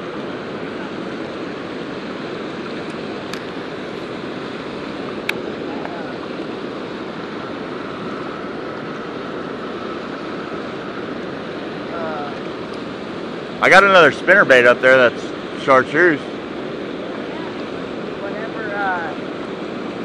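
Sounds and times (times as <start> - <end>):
water rushing over a weir: 0.0 - 20.0.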